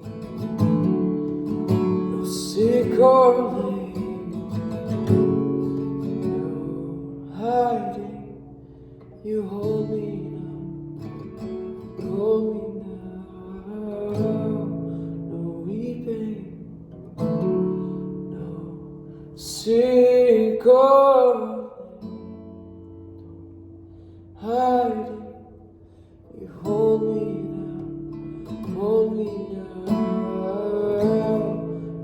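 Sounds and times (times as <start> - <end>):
acoustic guitar strumming chords: 0.0 - 32.0.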